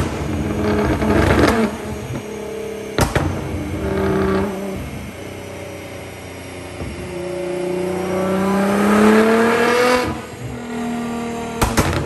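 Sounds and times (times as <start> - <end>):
car engine revving on a dyno: 0.0 - 12.0.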